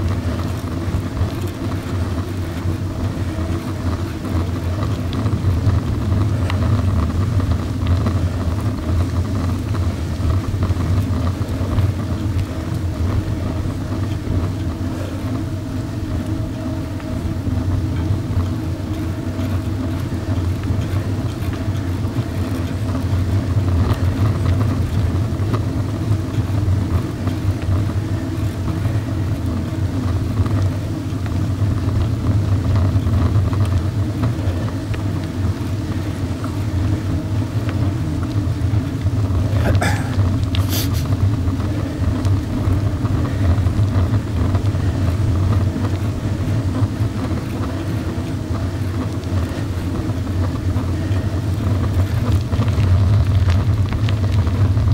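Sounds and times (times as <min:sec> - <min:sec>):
tyres on gravel road: 0:00.0 - 0:54.9
vehicle engine drone: 0:00.0 - 0:54.9.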